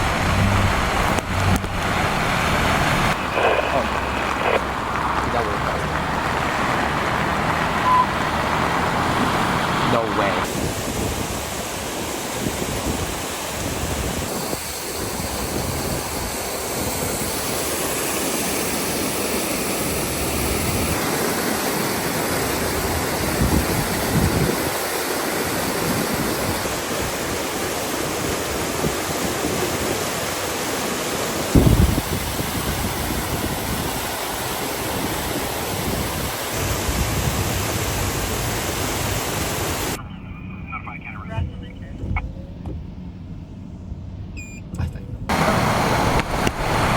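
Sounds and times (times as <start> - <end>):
water rushing: 0.0 - 40.0, 45.3 - 46.9.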